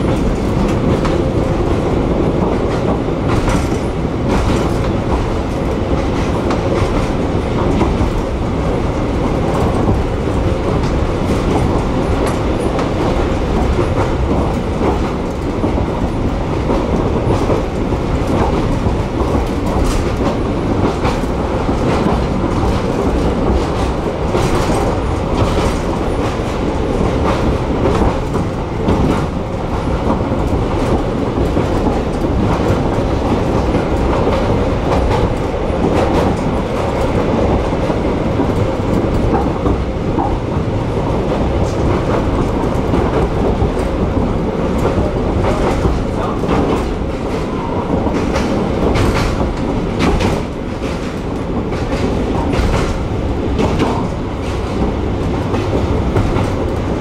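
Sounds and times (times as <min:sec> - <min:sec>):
clickety-clack of rail joints: 0:00.0 - 0:57.0
train wheels rumbling on rail: 0:00.0 - 0:57.0.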